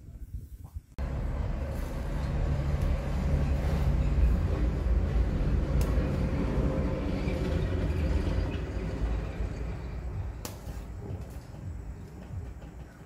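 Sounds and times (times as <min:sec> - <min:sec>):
steady low rumble: 0:00.9 - 0:13.0.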